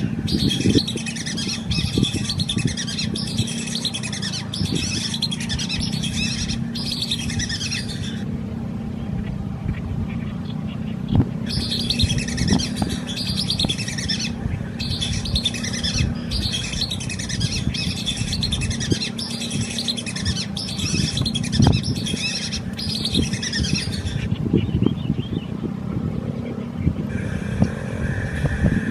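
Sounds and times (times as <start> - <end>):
birds singing high phrases: 0.0 - 28.9
steady low rumble: 0.0 - 28.9.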